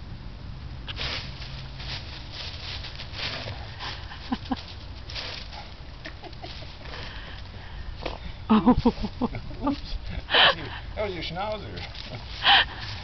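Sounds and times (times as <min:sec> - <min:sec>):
broom sweeping leaves: 0:00.9 - 0:13.0.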